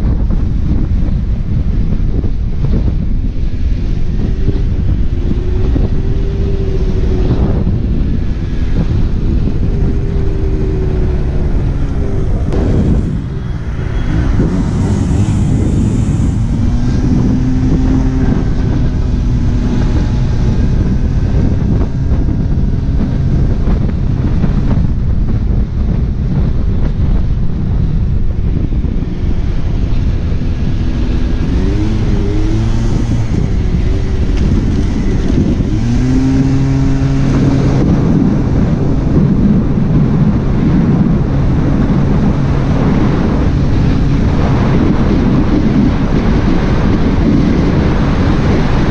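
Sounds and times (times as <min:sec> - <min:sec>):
wind buffeting microphone: 0:00.0 - 0:48.9
scooter engine running: 0:03.0 - 0:25.3, 0:27.8 - 0:48.8.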